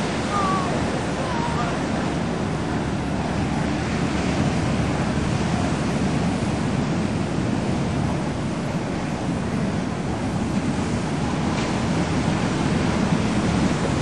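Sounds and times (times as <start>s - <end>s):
ocean surf on rocks: 0.0s - 14.0s.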